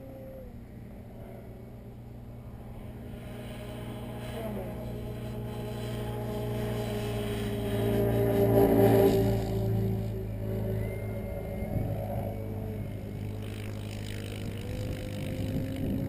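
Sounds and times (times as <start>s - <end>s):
electric motor and propeller droning: 0.0s - 16.0s.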